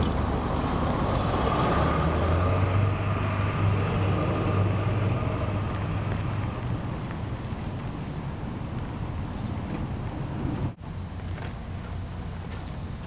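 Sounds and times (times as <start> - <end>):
road and wind noise: 0.0 - 13.0
vehicle engine drone: 0.0 - 13.0.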